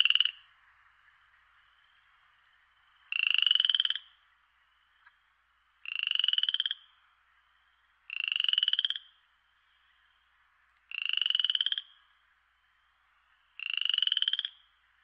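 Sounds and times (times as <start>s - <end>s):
frog calling: 0.0s - 15.0s.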